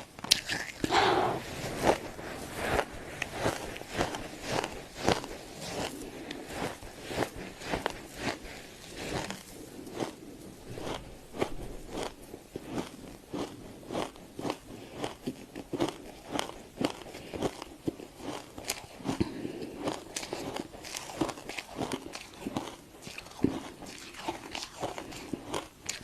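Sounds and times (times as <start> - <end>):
frost being chewed: 0.0 - 26.0.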